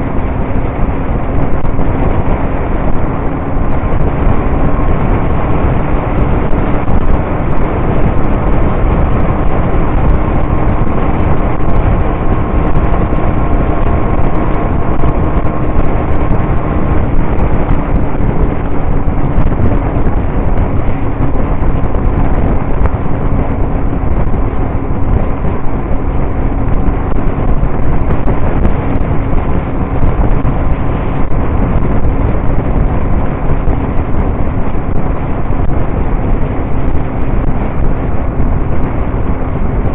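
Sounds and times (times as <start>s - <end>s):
motorcycle engine droning: 0.0s - 39.9s
wind rush on microphone: 0.0s - 39.9s.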